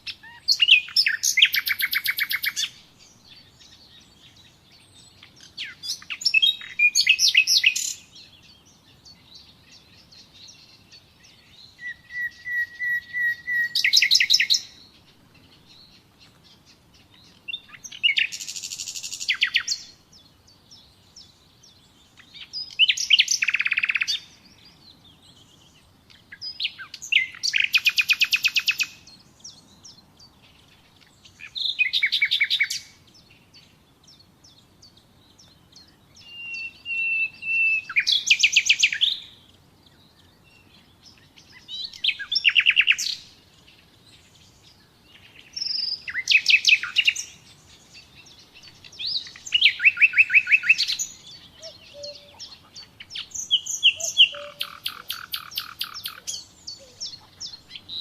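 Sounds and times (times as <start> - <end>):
long steady bird whistle: 0.0 - 30.0, 31.2 - 58.0
nightingale singing: 0.0 - 58.0.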